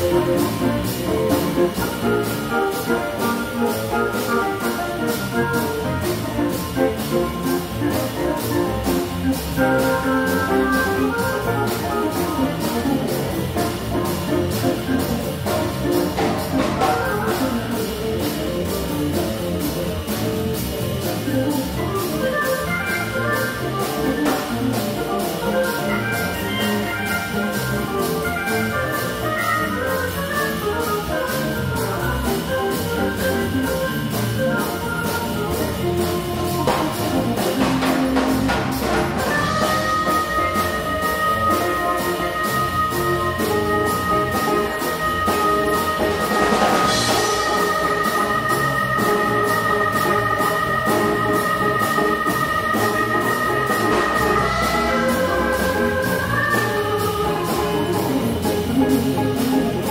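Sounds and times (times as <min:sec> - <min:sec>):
big band playing jazz: 0:00.0 - 0:59.9
drum kit beat: 0:00.0 - 0:59.9.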